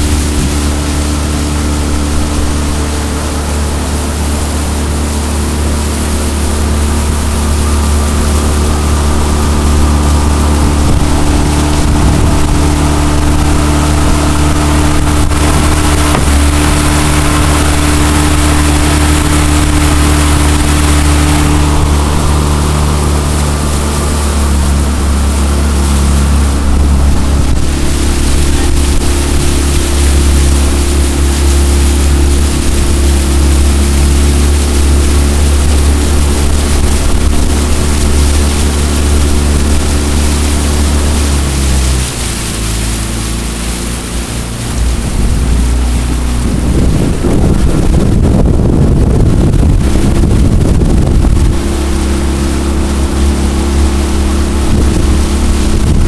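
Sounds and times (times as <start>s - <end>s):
outboard motor running: 0.0s - 56.0s
water splashing along hull: 0.0s - 56.0s.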